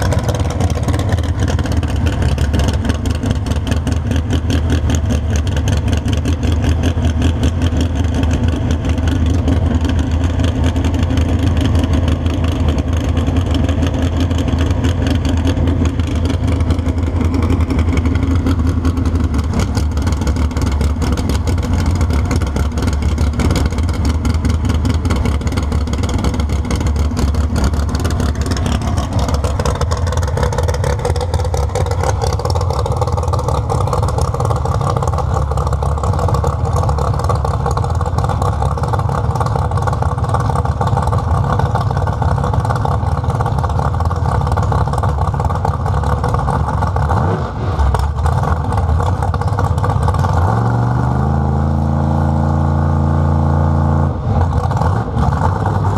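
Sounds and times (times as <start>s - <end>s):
drag car engine idling: 0.0s - 51.9s, 52.6s - 55.9s.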